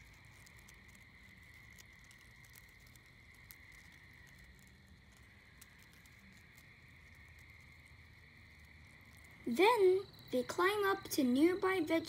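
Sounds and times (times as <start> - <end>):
faint high-pitched hiss: 0.0 - 12.0
insect crawling over dry leaves: 0.0 - 12.0.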